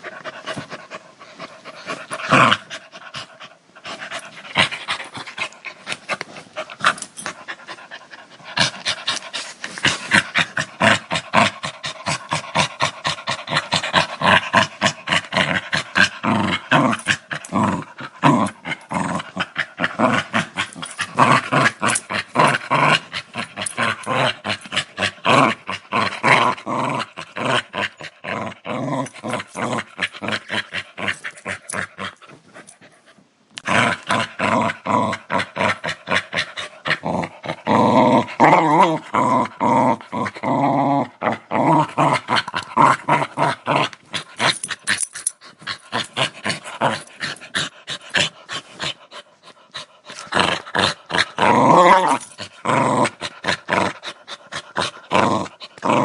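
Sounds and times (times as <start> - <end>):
dog growling aggressively: 0.0 - 32.4, 33.6 - 56.0.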